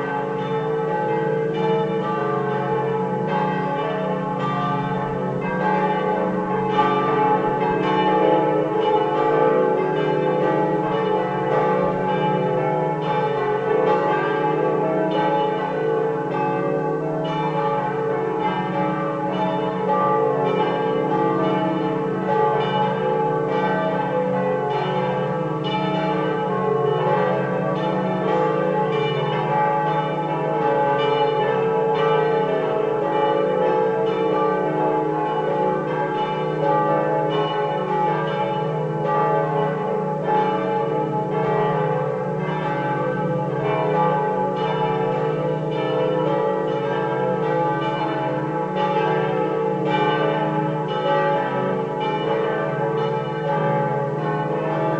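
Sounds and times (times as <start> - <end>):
church bells ringing: 0.0 - 54.9.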